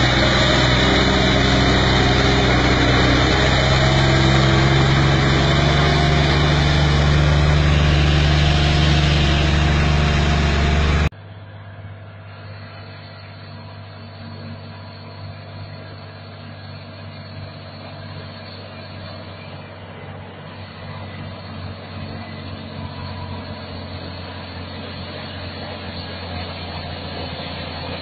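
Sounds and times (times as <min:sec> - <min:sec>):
truck diesel engine under load: 0:00.0 - 0:28.0.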